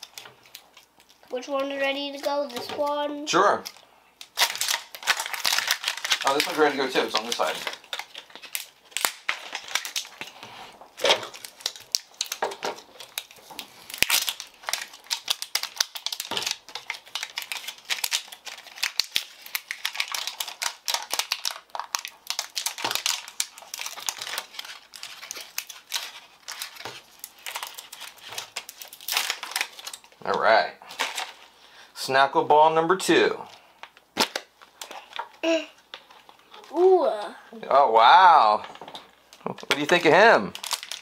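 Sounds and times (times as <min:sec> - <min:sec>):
plastic packaging crinkling and tearing: 0:00.0 - 0:31.6, 0:33.5 - 0:36.8, 0:38.6 - 0:41.0.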